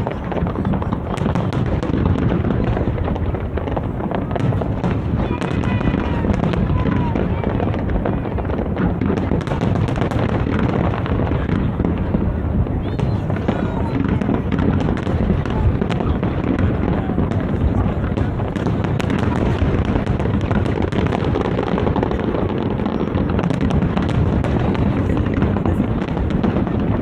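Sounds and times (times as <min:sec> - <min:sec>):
fireworks booming: 0:00.0 - 0:27.0
fireworks crackles and pops: 0:00.0 - 0:27.0.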